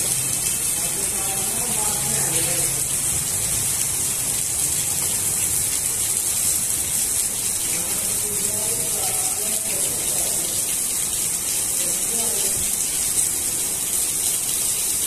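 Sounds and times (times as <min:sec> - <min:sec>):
heavy rain on street: 0:00.0 - 0:15.0.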